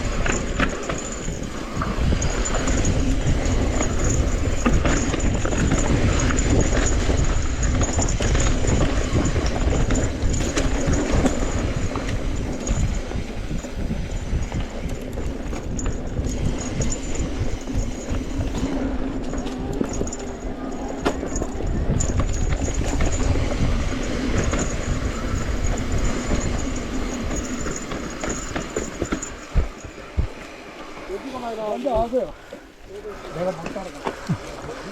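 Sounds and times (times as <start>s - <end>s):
small rattling knocks: 0.0s - 30.5s
low rumble of tyres and wind: 0.0s - 34.9s.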